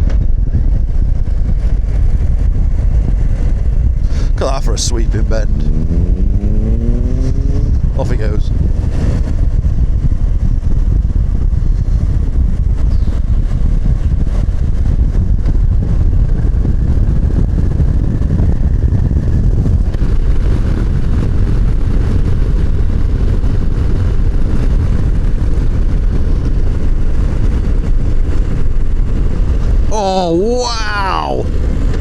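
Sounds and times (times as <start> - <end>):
motorcycle engine rumbling: 0.0 - 32.0
wind rush over microphone: 0.0 - 32.0.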